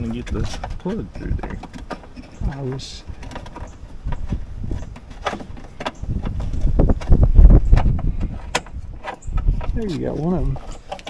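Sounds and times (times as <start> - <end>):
cable plug clicking and knocking: 0.0 - 10.0
low thumps and rumbling: 0.0 - 11.0.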